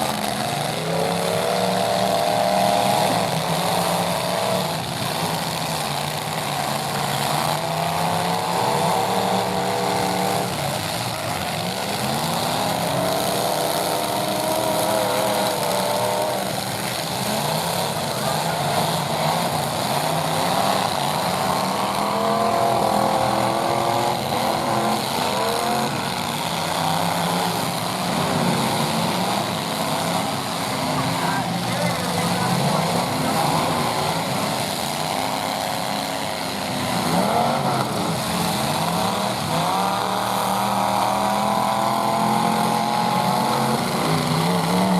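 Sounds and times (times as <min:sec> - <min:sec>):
pickup truck engines revving: 0:00.0 - 0:44.9.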